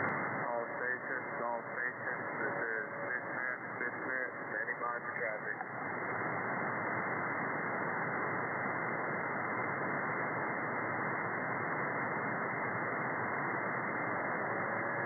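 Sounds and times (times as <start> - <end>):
faint steady tone: 0.0 - 15.0
radio static hiss: 0.0 - 15.0.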